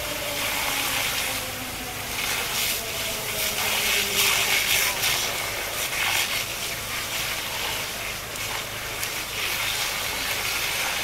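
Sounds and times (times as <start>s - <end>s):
fire crackles: 0.0s - 11.0s
fire hissing roar: 0.0s - 11.0s
low steady hum: 0.0s - 11.0s.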